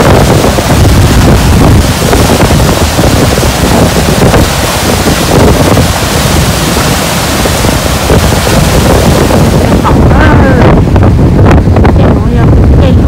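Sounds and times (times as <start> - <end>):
river water rushing: 0.0 - 11.8
wind buffeting microphone: 0.0 - 13.0.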